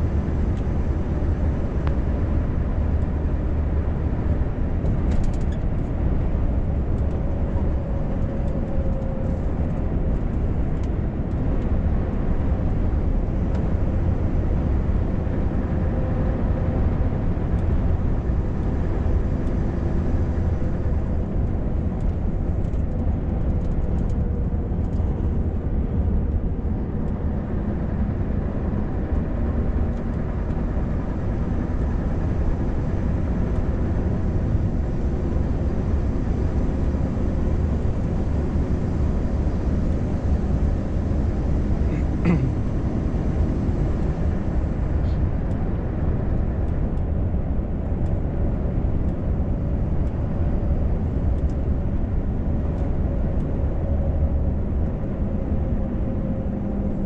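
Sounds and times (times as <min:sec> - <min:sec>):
diesel engine droning: 0:00.0 - 0:57.0
tyre and road noise: 0:00.0 - 0:57.0.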